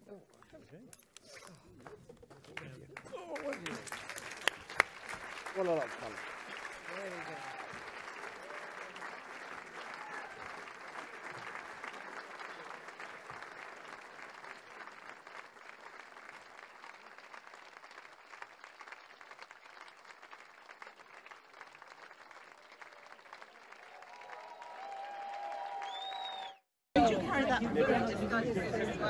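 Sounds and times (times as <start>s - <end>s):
audience applauding: 1.4s - 26.7s.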